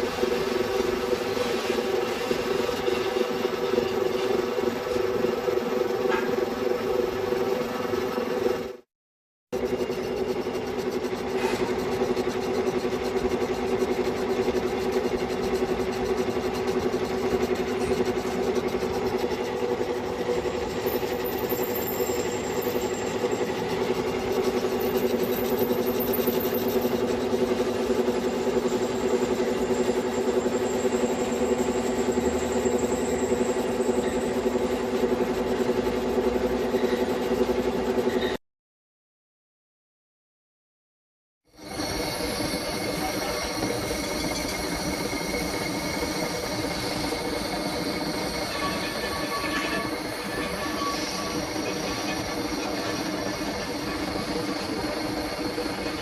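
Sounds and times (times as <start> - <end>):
lathe running with flutter: 0.0 - 8.8, 9.6 - 38.4, 41.6 - 56.0.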